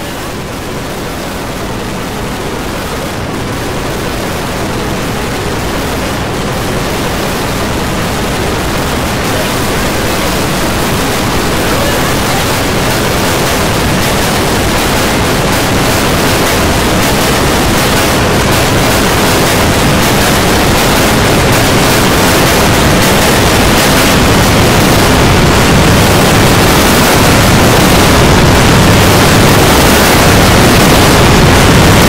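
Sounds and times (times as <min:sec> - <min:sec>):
dense rushing noise: 0:00.0 - 0:32.0.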